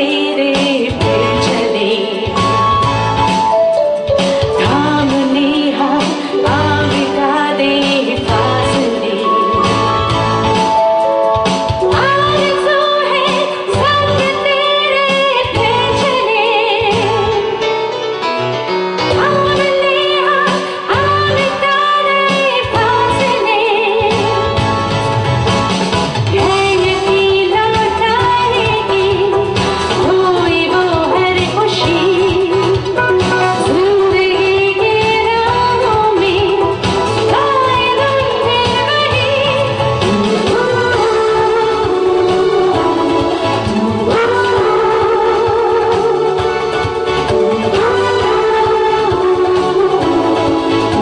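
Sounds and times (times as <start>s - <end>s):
woman singing with vibrato: 0.0s - 3.2s, 4.6s - 10.6s, 11.8s - 17.8s, 19.1s - 24.6s, 26.3s - 51.0s
keyboard accompaniment: 0.0s - 51.0s
live band music: 0.0s - 51.0s.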